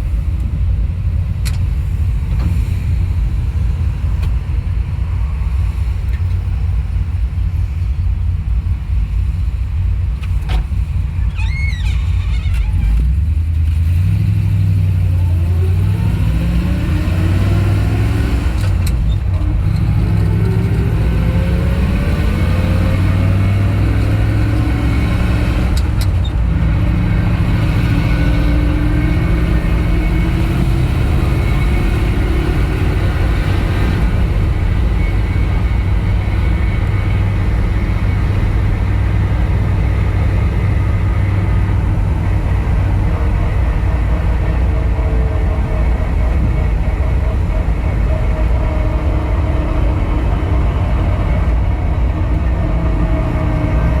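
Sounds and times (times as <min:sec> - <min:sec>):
road noise: 0:00.0 - 0:54.0
truck engine accelerating: 0:00.0 - 0:54.0.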